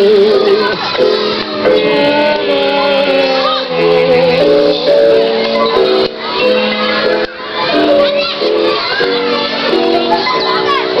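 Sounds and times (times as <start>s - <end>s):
melody over chords: 0.0s - 11.0s.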